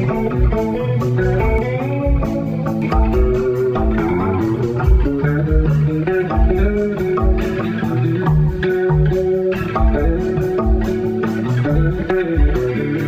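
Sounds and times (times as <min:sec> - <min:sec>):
electric bass: 0:00.0 - 0:13.0
electric guitar melody: 0:00.0 - 0:13.0
percussion beat: 0:00.0 - 0:13.0.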